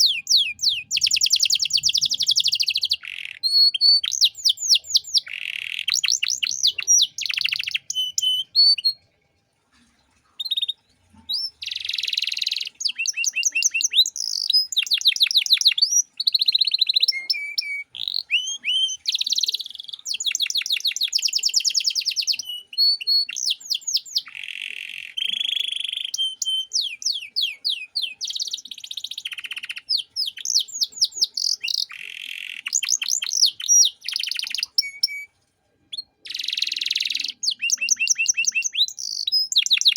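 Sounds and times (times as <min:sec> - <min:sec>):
canary singing trills: 0:00.0 - 0:09.0, 0:10.4 - 0:39.9.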